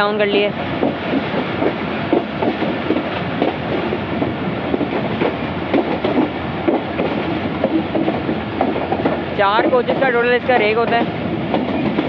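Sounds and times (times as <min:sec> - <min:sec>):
train running rumble: 0:00.0 - 0:12.0
wheels clacking over rail joints: 0:00.0 - 0:12.0.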